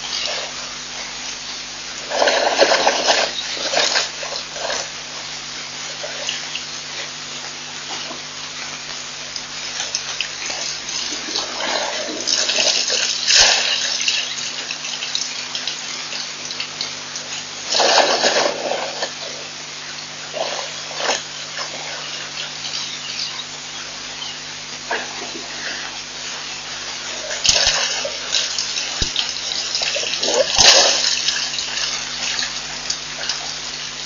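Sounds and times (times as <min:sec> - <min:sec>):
steady hiss: 0:00.0 - 0:34.0
elephant drinking water splashing: 0:02.0 - 0:07.1, 0:09.6 - 0:23.3, 0:24.8 - 0:34.0.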